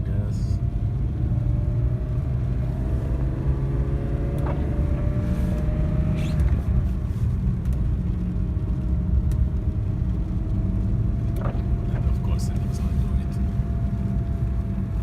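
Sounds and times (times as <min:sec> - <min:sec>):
car engine pulling under throttle: 0:00.0 - 0:15.0
road noise rumble: 0:00.0 - 0:15.0.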